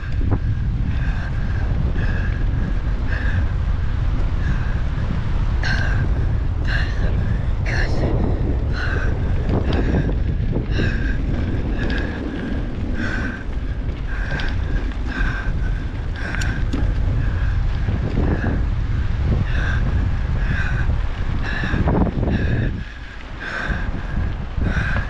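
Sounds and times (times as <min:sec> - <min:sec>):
bike tyres rumbling on trail: 0:00.0 - 0:25.0
wind buffeting microphone: 0:00.0 - 0:25.0.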